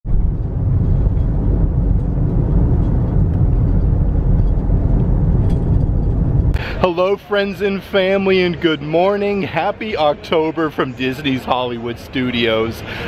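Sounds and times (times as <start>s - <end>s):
car tyres and engine rumble: 0.0s - 13.0s.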